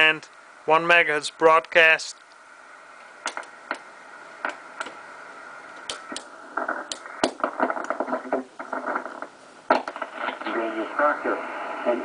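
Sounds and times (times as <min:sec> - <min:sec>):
choppy radio receiver audio: 0:00.0 - 0:12.0
faint steady hiss: 0:00.0 - 0:12.0.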